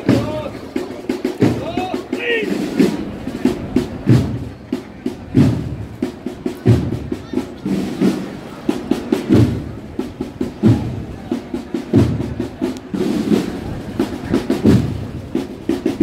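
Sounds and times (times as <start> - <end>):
snare drum strokes: 0.0 - 16.0.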